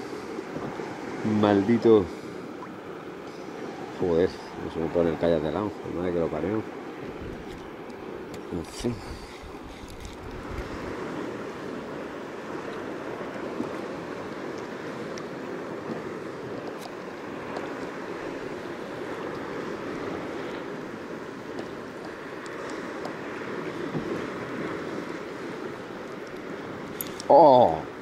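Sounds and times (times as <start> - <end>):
sea water washing around kayak: 0.0 - 28.0
wind on microphone: 0.0 - 28.0.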